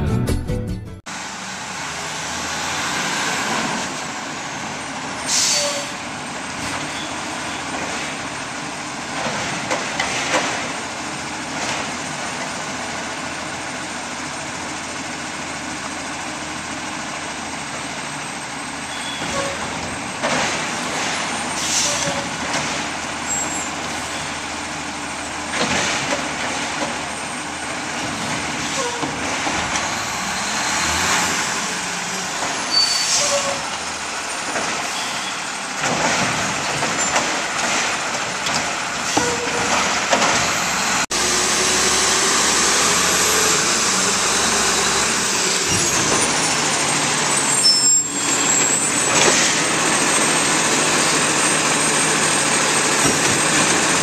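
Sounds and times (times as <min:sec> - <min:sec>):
garbage truck diesel engine: 0:00.0 - 0:54.0.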